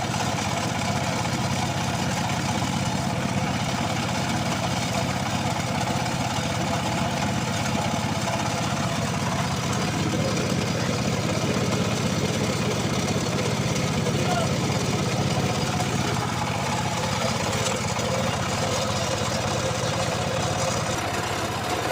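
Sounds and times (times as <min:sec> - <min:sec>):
small engine idling: 0:00.0 - 0:21.9.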